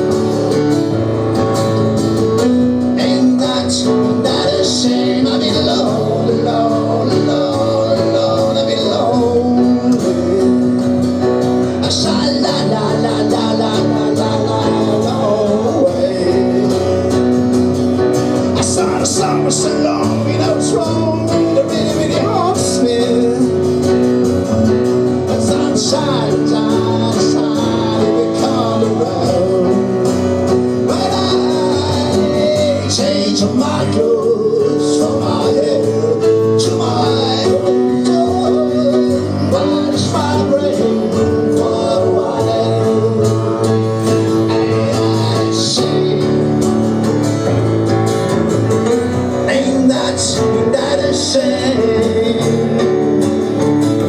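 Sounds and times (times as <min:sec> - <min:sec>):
live band with singer: 0:00.0 - 0:54.0.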